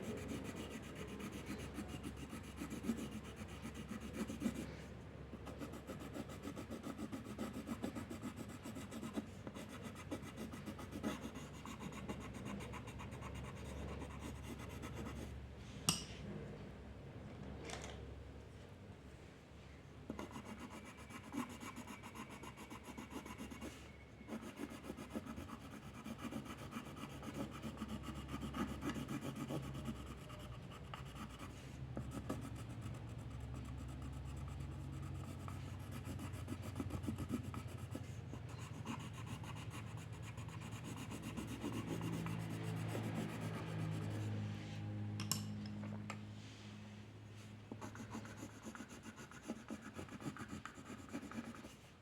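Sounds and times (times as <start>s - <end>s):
pencil scratching on paper: 0.0s - 15.4s, 20.1s - 44.4s, 47.7s - 52.0s.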